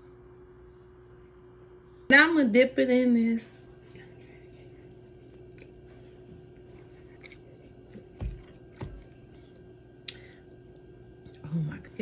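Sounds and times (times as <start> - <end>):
quiet low hum: 0.0 - 12.0.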